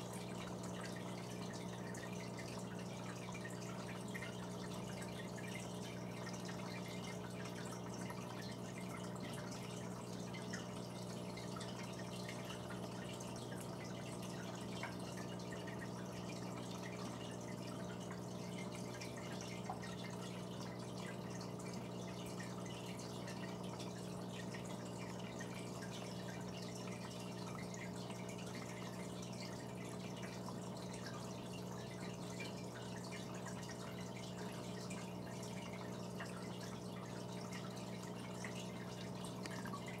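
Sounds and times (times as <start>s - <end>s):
aquarium pump humming: 0.0s - 40.0s
water dripping and trickling: 0.0s - 40.0s.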